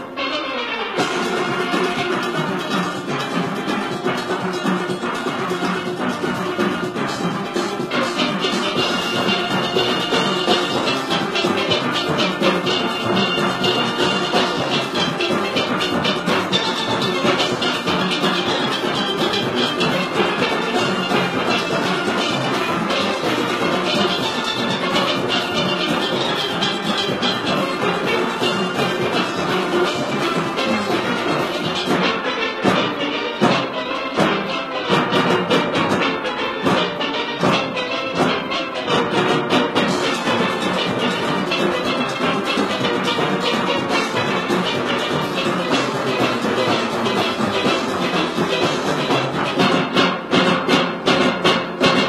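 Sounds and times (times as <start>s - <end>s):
steel orchestra playing: 0.0s - 52.0s
percussion keeping the beat: 1.0s - 52.0s.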